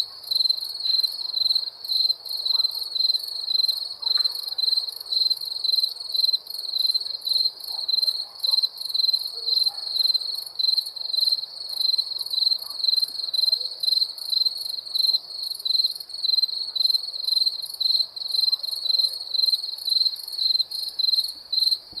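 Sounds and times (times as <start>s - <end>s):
crickets chirping: 0.1s - 22.0s.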